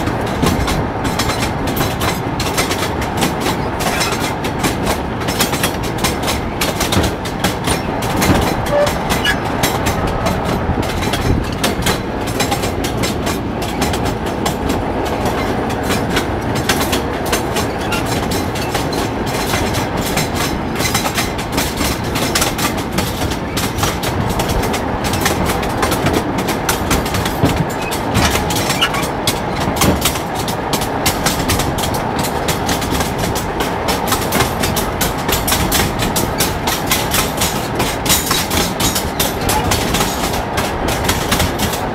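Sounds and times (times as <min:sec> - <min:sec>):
wheels clattering over rail joints: 0:00.0 - 0:41.9.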